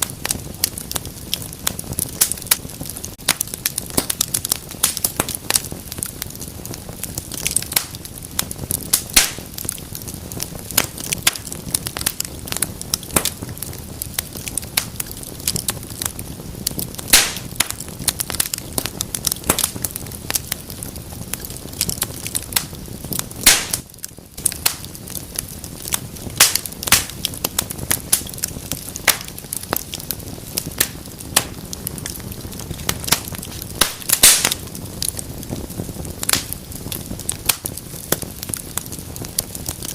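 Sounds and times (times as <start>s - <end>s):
fire crackling and popping: 0.0s - 39.9s
low hiss of burning: 0.0s - 39.9s.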